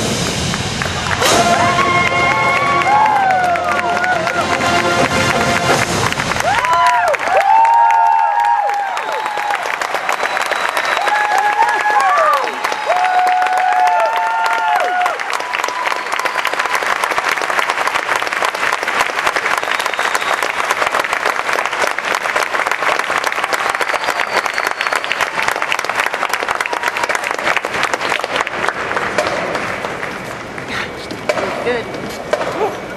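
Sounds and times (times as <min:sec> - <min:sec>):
crowd applauding: 0:00.0 - 0:30.9.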